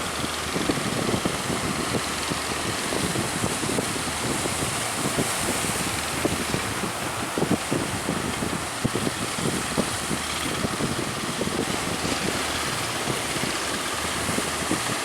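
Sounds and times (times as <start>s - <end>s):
low engine hum: 0.0s - 15.0s
open sea rushing: 0.0s - 15.0s
wind buffeting microphone: 0.0s - 15.0s.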